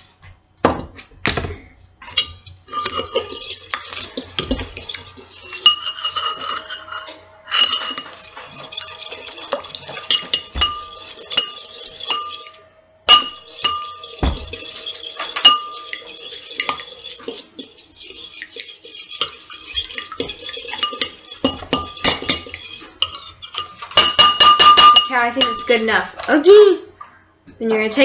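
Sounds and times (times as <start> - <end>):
fork beating eggs in a bowl: 2.0 - 25.8.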